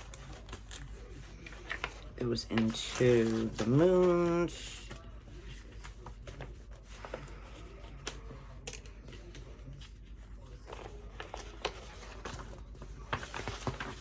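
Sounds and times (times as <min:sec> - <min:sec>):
pages turning and rustling: 0:00.0 - 0:14.0.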